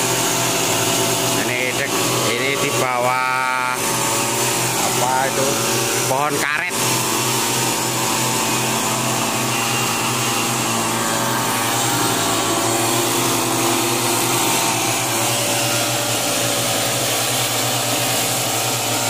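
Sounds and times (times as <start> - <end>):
blower fan rushing: 0.0 - 19.0
small engine droning: 0.0 - 19.0.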